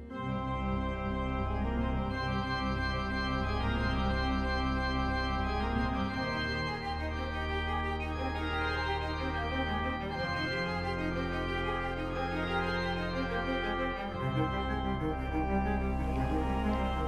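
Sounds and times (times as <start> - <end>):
organ music: 0.0 - 17.0.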